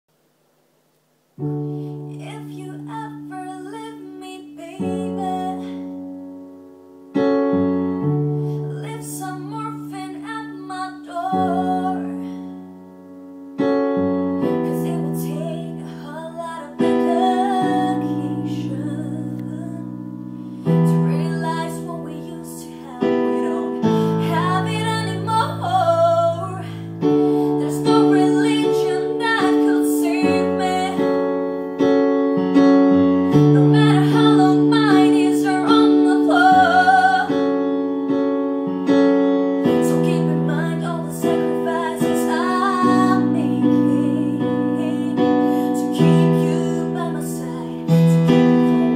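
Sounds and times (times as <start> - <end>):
piano chords on keyboard: 1.4 - 48.9
woman singing a slow ballad: 1.9 - 6.1, 8.6 - 12.6, 14.4 - 31.6, 33.3 - 37.8, 39.6 - 48.9.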